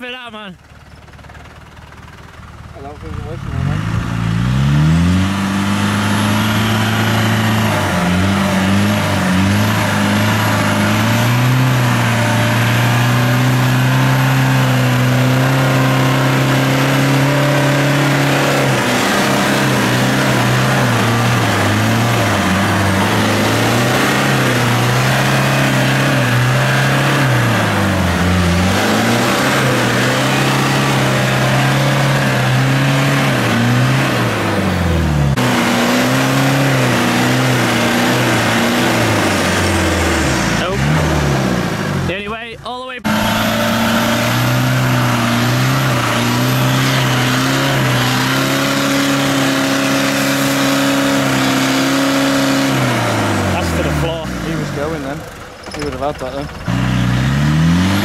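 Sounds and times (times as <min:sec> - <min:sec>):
engine revving hard: 0:03.0 - 0:58.0
tyres churning mud: 0:03.1 - 0:58.0.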